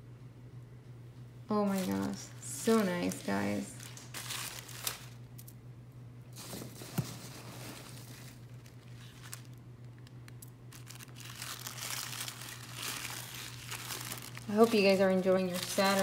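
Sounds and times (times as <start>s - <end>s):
steady low hum: 0.0s - 16.0s
wrapping rustling and crinkling: 1.6s - 5.3s, 6.4s - 16.0s.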